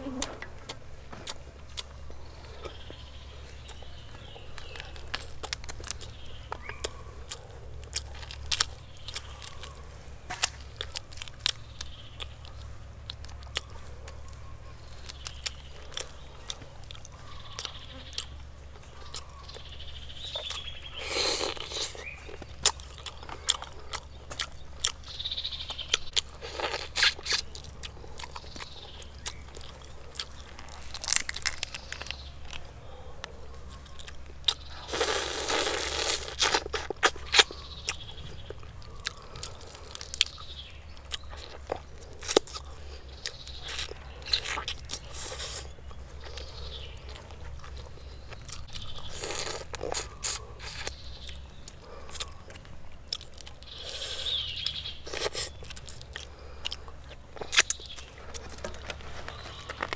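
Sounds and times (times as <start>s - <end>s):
steady low hum: 0.0s - 59.9s
person crunching and chewing: 0.1s - 59.9s.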